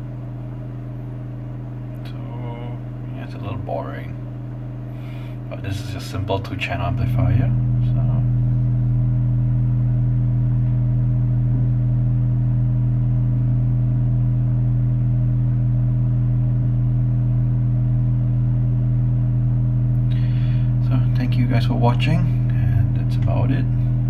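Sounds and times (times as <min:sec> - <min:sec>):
low droning test tone: 0:00.0 - 0:24.0.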